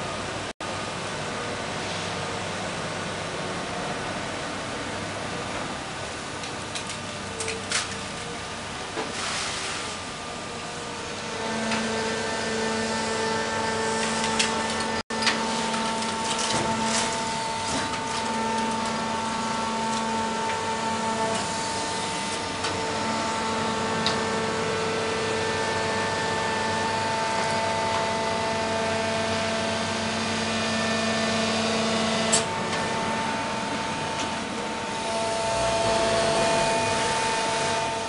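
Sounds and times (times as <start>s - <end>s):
baler mechanical hum: 0.0s - 38.0s.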